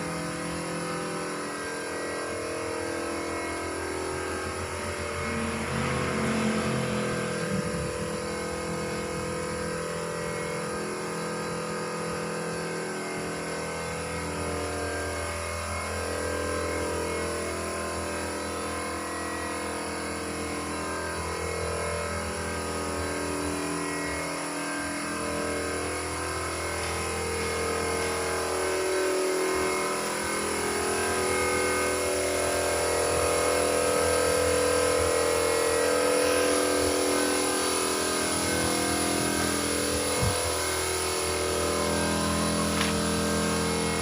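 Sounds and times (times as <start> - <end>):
motor hum with tones: 0.0 - 44.0.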